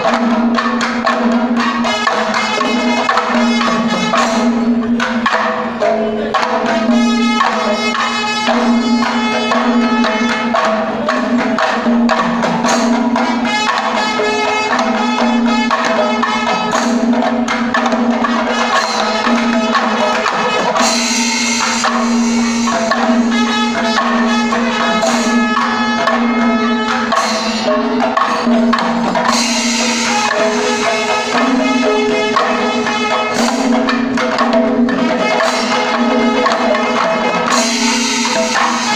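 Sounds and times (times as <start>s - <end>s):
hourglass drums rhythm: 0.0s - 38.9s
ringing cymbals: 0.0s - 38.9s.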